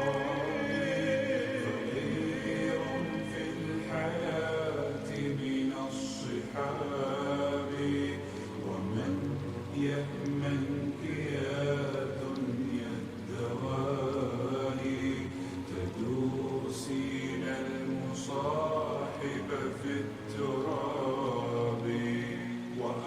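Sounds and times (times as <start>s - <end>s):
layered voices chanting: 0.0s - 23.0s.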